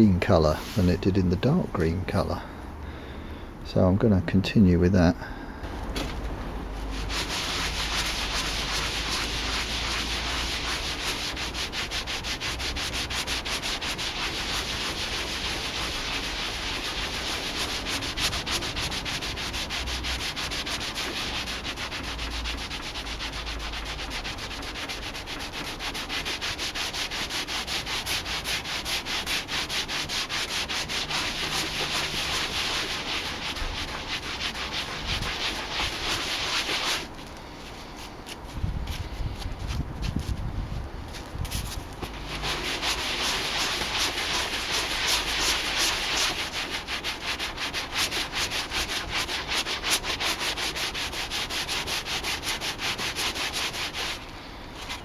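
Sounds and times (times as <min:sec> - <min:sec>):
rag scrubbing leather: 0:05.7 - 0:40.4, 0:41.1 - 0:55.0.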